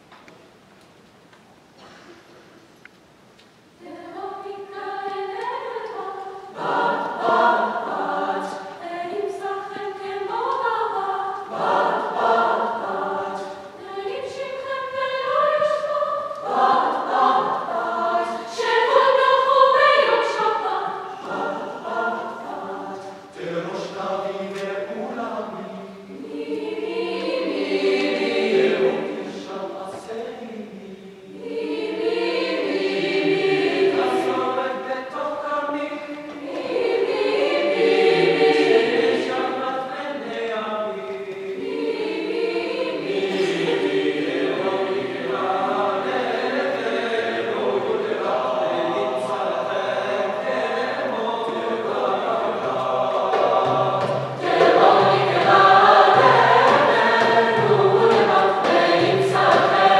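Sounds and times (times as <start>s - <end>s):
choir singing in parts: 3.8s - 59.9s.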